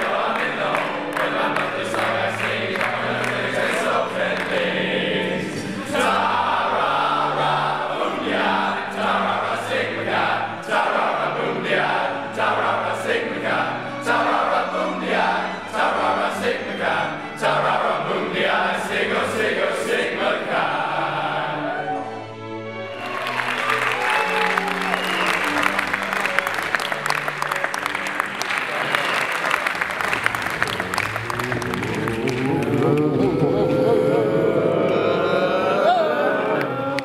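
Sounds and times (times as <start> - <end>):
choral singing: 0.0 - 37.0.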